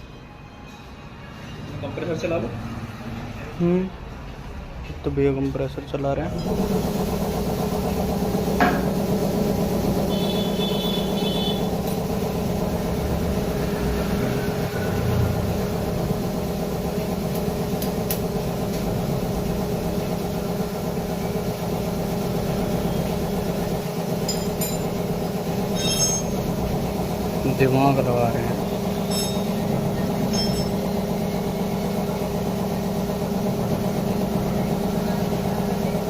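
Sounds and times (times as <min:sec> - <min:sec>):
air compressor chugging: 0:06.2 - 0:36.0.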